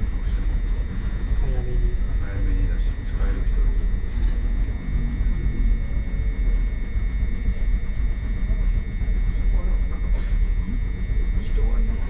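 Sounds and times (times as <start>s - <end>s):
high electrical whine: 0.0s - 12.0s.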